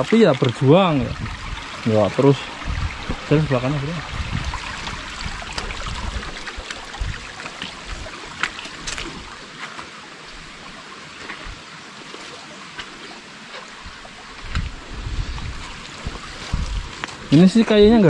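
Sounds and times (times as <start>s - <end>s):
river water running over rocks: 0.0s - 18.0s.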